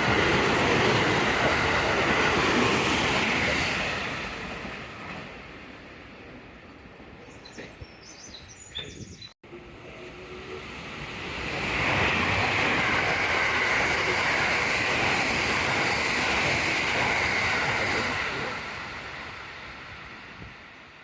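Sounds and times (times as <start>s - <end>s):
train passing at speed: 0.0s - 7.7s, 9.4s - 21.0s.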